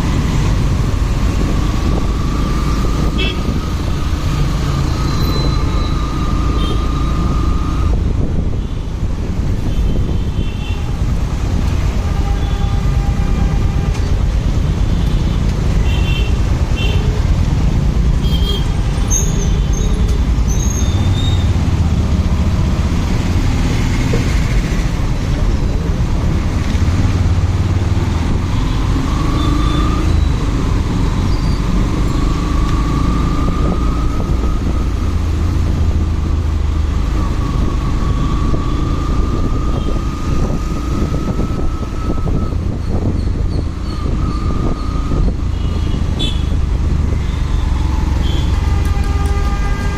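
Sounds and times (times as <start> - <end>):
wind rushing on microphone: 0.0 - 14.8, 21.4 - 49.9.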